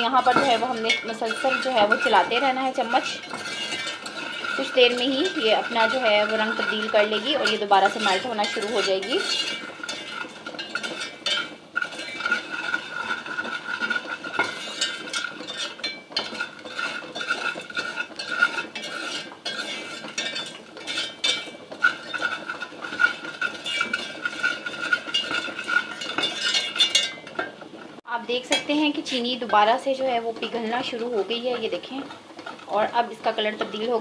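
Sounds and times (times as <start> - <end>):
spoon scraping sugar in pot: 0.0 - 27.7, 28.4 - 34.0.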